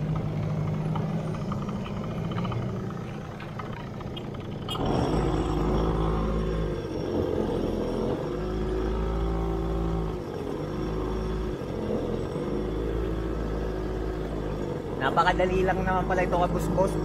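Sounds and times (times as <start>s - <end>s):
quad bike engine revving: 0.0s - 17.0s.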